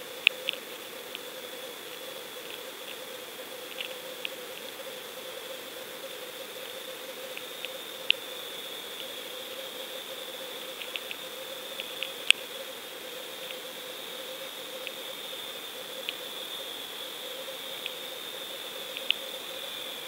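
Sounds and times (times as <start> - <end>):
steady underwater hum: 0.0 - 20.0.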